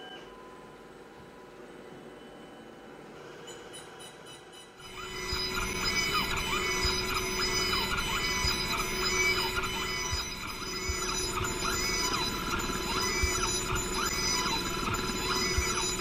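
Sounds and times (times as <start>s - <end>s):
spindle whine sweeping in pitch: 0.0s - 16.0s.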